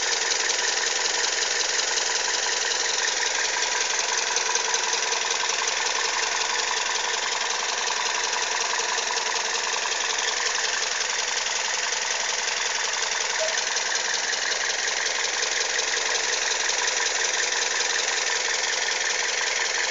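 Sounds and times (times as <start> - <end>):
car engine running: 0.0 - 19.9
fast ticking clatter: 0.0 - 19.9.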